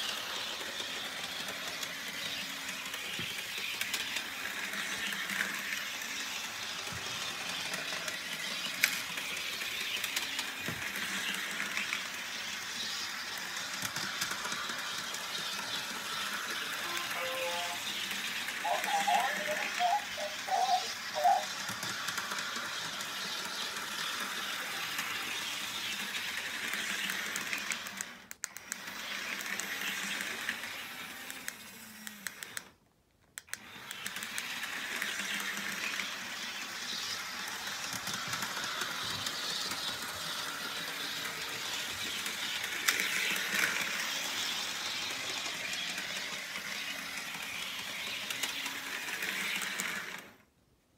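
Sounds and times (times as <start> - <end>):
model train motor whirring: 0.0 - 32.8, 33.4 - 50.5.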